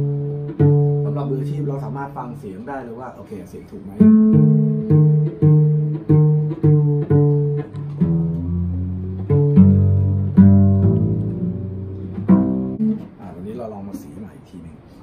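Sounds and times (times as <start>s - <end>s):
cello strings plucked: 0.0s - 13.5s.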